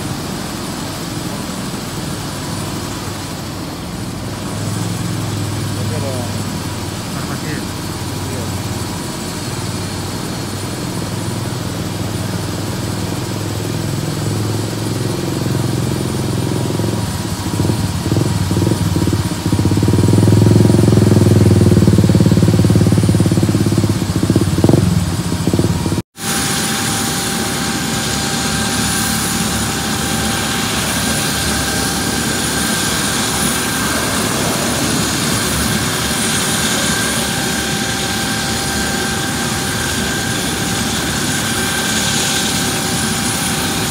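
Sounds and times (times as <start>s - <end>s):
helicopter rotor noise: 0.0s - 43.9s
helicopter turbine whine: 0.0s - 43.9s.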